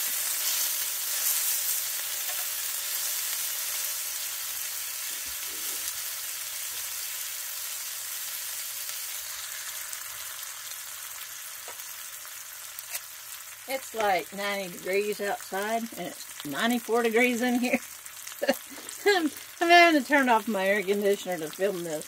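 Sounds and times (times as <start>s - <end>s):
lemon slices sizzling in butter: 0.0s - 22.0s.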